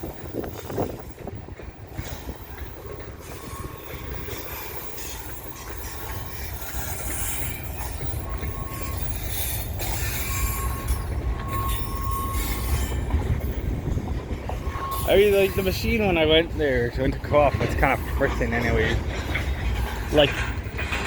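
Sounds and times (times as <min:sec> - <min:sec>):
freight train rumble: 0:00.0 - 0:21.0
high wheel squeal: 0:00.0 - 0:21.0.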